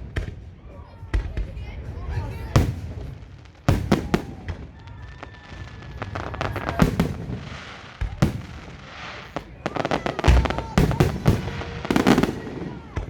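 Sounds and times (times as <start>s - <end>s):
fireworks hissing and crackling: 0.0s - 13.0s.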